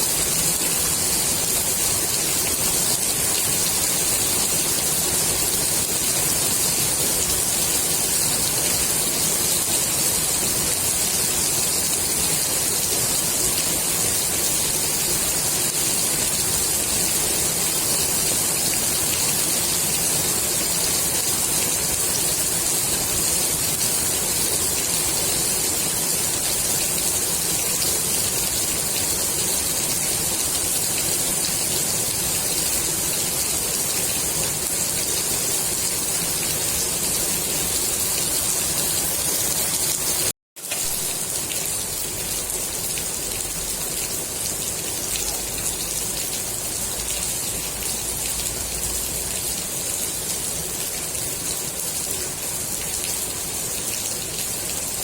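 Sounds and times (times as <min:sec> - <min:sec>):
rain falling on pool water: 0:00.0 - 0:55.0.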